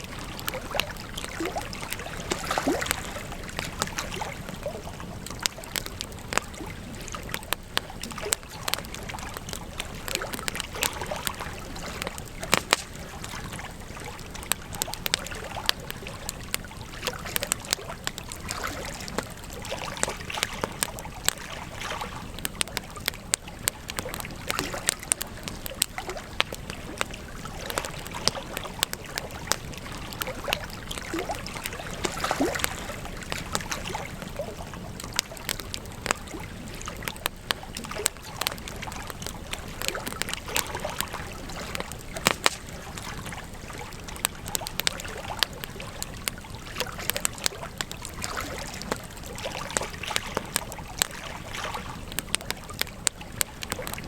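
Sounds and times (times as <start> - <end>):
campfire crackling and popping: 0.0 - 54.0
fire steady hiss: 0.0 - 54.0.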